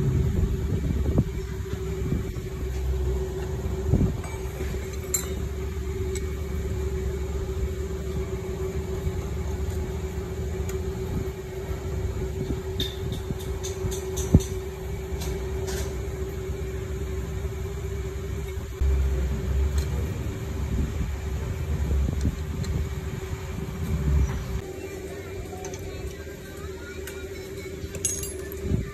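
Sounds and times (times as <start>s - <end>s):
low machinery rumble and hum: 0.0s - 28.9s.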